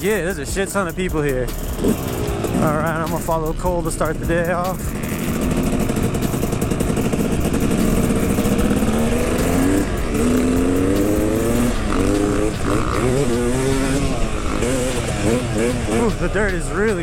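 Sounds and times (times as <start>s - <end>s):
dirt bike engine accelerating: 0.0s - 17.0s.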